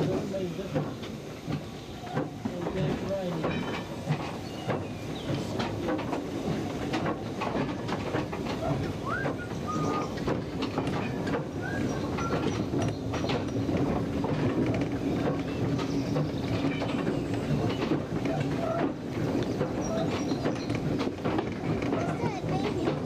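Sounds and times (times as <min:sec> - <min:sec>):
locomotive running rattle: 0:00.0 - 0:23.0
train wheels clattering over rail joints: 0:00.0 - 0:23.0.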